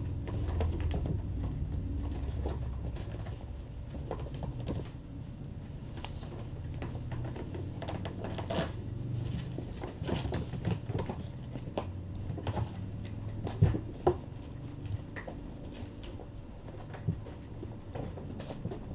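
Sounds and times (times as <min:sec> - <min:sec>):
kittens scampering and wrestling: 0:00.0 - 0:18.9.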